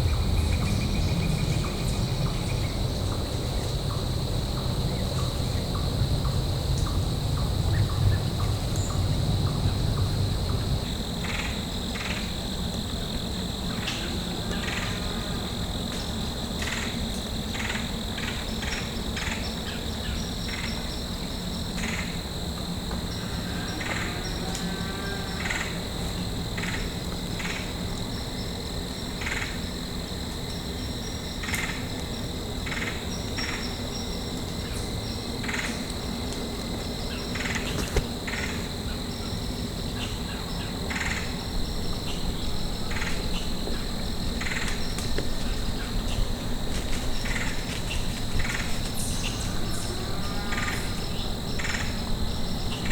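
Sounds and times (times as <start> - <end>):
crickets trilling and chirping: 0.0 - 52.9.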